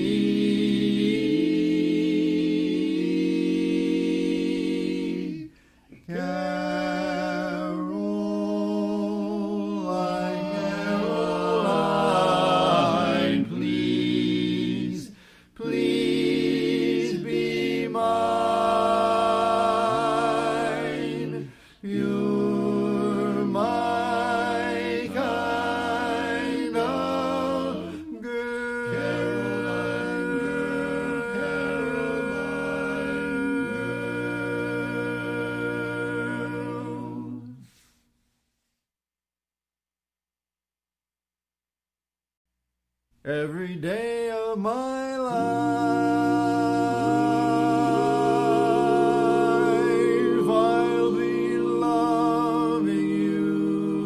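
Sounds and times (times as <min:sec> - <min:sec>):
barbershop quartet singing a cappella: 0:00.0 - 0:37.9, 0:43.3 - 0:54.0.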